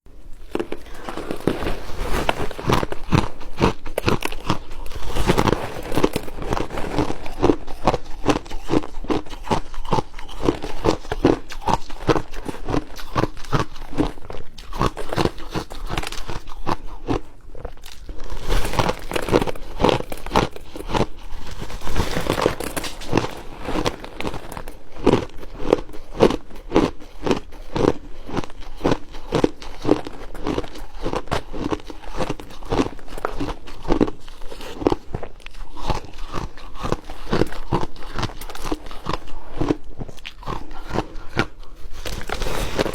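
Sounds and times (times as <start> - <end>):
crunching and chewing ice: 0.1 - 42.9.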